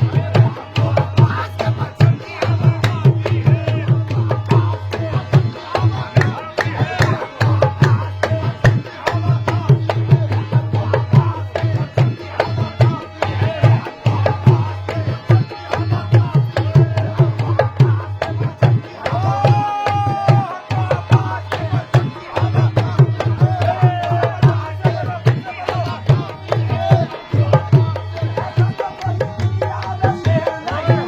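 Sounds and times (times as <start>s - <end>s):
hand drum fast rhythm: 0.0s - 31.0s.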